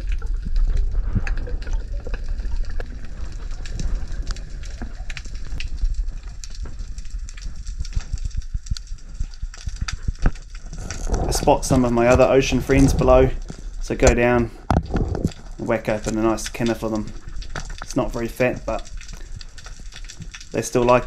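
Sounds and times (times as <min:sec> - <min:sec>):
low rumble of moving water: 0:00.0 - 0:21.0
underwater crackling clicks: 0:00.0 - 0:21.0.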